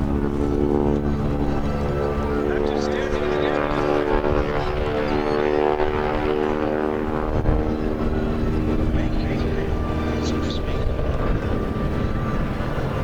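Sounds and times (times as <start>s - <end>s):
airplane engine droning: 0.0s - 13.0s.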